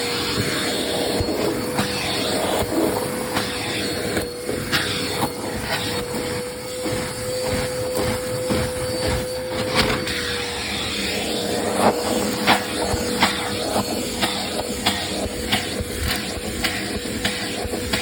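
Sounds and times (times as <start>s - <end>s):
vacuum cleaner whining: 0.0s - 18.0s.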